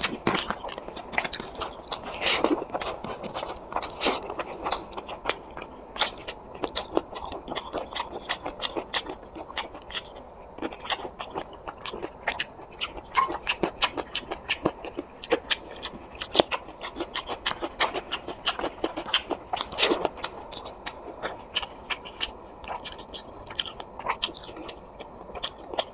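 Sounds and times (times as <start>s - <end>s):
person chewing and smacking: 0.0s - 25.9s.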